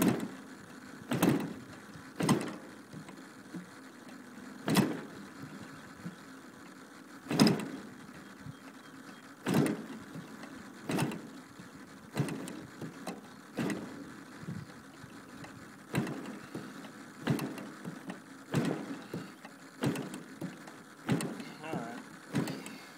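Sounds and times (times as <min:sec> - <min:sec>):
engine cranking puffs: 0:00.0 - 0:22.9.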